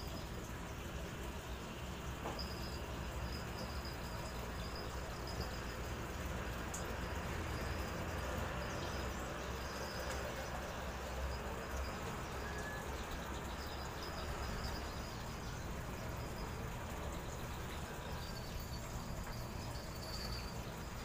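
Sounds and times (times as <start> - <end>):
faint high-pitched chirping: 2.2 - 21.0.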